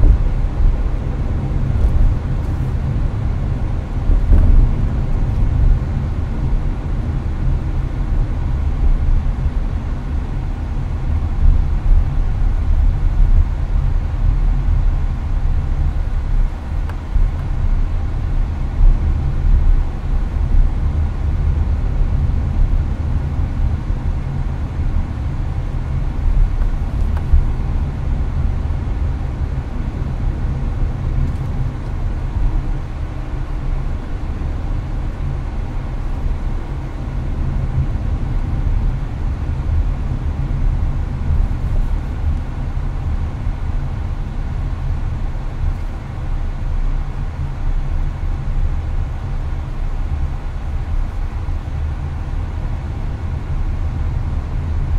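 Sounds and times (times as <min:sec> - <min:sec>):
air conditioner fan hiss: 0:00.0 - 0:54.9
car cabin road rumble: 0:00.0 - 0:54.9.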